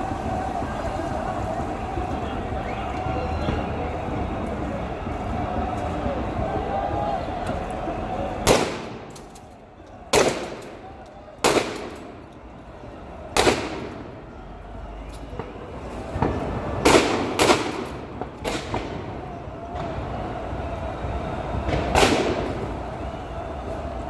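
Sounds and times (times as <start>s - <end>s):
crowd noise: 0.0s - 24.0s
fireworks bangs: 0.0s - 24.0s.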